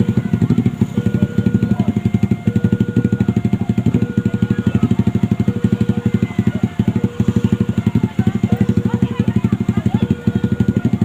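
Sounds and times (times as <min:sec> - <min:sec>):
level crossing warning signal: 0:00.0 - 0:11.0.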